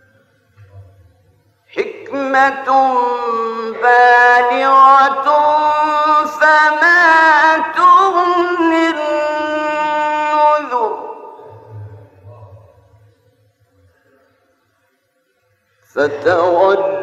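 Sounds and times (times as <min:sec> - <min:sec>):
man chanting recitation: 0:00.0 - 0:14.6, 0:15.6 - 0:17.0.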